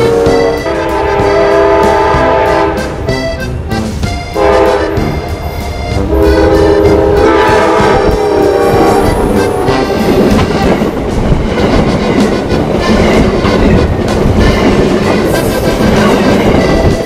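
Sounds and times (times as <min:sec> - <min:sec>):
freight train rolling rumble: 0:00.0 - 0:17.0.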